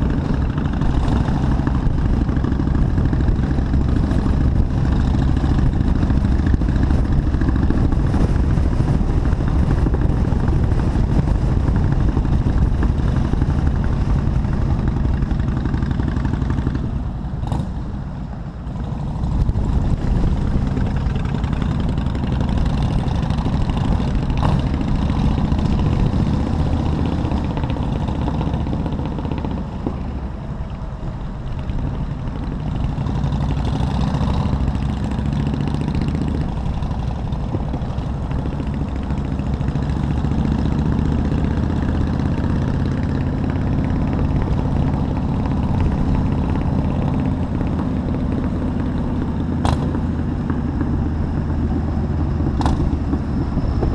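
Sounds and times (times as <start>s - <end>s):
motorcycle engine rumbling: 0.0s - 53.9s
road noise: 0.0s - 53.9s.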